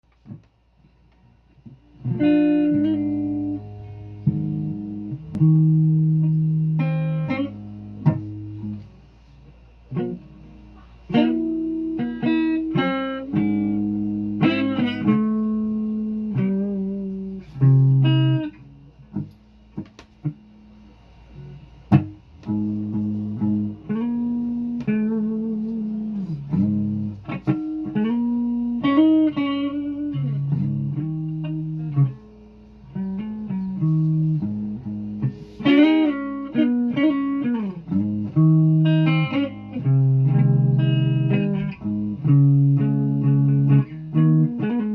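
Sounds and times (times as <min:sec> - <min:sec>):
solo guitar plucked notes and chords: 0:01.2 - 0:44.9.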